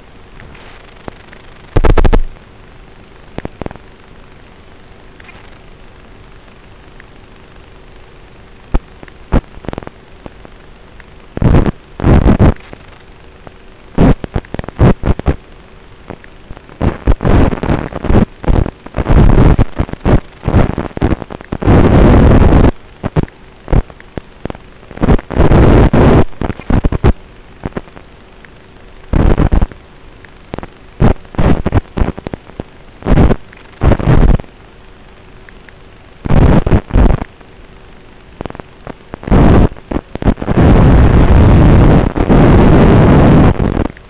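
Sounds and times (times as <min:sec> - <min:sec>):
static crackling: 0:00.0 - 0:44.0
steady hiss: 0:00.0 - 0:44.0.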